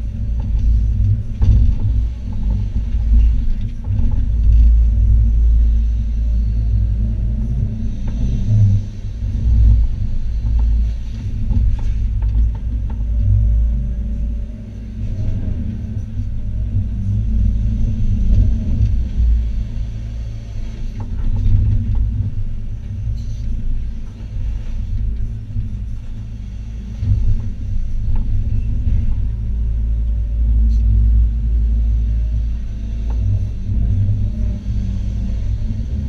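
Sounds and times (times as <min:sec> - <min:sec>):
excavator engine and hydraulics rumble: 0:00.0 - 0:36.0.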